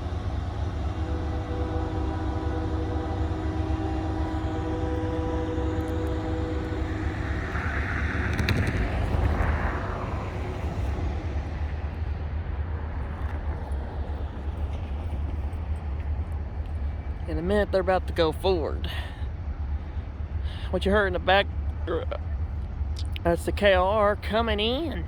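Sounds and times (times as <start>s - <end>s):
diesel locomotive rumbling: 0.0s - 25.0s
steady humming tones: 0.0s - 25.0s.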